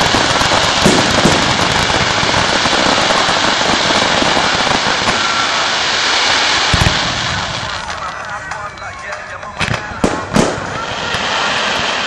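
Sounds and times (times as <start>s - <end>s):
fireworks crackling: 0.0s - 12.0s
loud fireworks pops: 0.0s - 12.0s.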